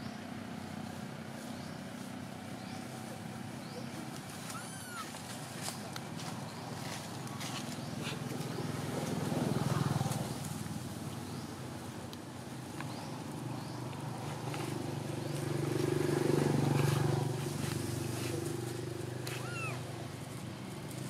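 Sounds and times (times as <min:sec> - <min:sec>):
motor engine droning: 0:00.0 - 0:21.0.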